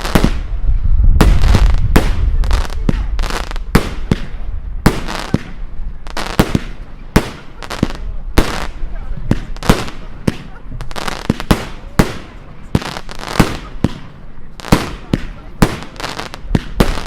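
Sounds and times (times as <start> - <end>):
firework bangs: 0.0 - 17.0.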